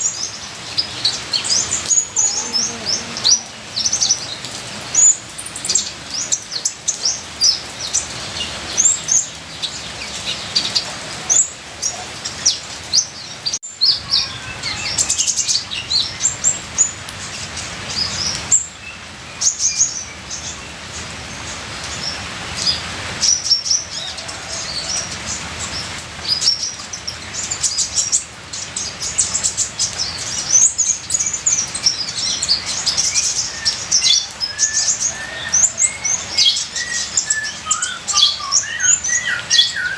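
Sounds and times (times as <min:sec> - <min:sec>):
sunbird singing: 0:00.0 - 0:39.9
trickling rain water: 0:00.0 - 0:39.9.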